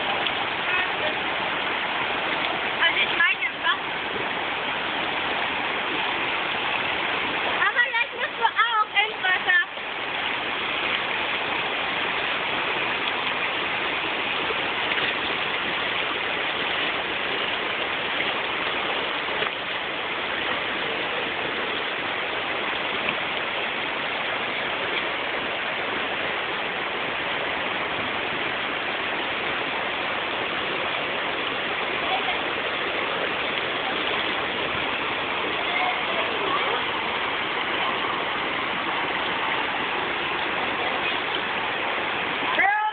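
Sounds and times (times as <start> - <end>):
river rushing over rocks: 0.0 - 42.9.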